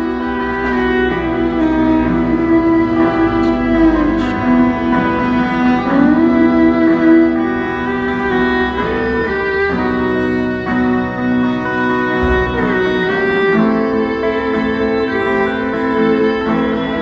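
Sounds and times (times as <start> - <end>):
bowed strings playing slow notes: 0.0 - 17.0.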